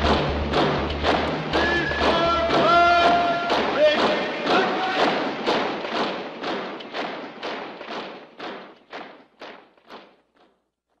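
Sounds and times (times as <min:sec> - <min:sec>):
marching boots stamping: 0:00.0 - 0:11.0.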